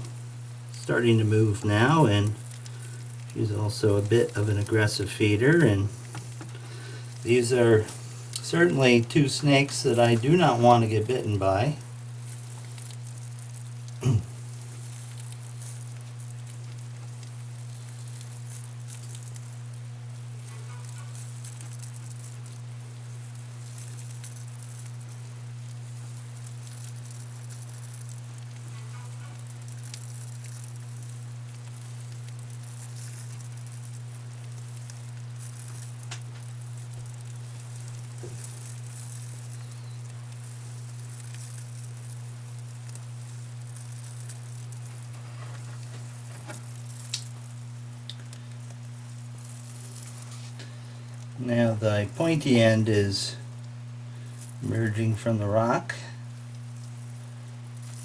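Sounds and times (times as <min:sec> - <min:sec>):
even hiss: 0:00.0 - 0:23.9, 0:26.0 - 0:58.0
steady low hum: 0:00.0 - 0:58.0.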